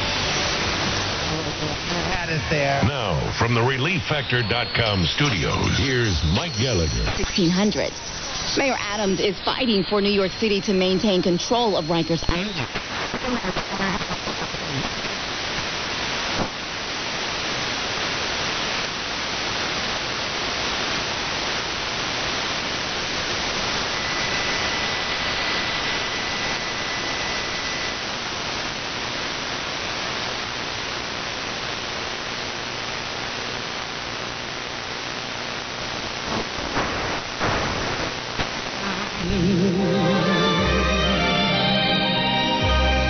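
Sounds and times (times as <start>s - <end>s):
radio static hiss: 0.0s - 43.0s.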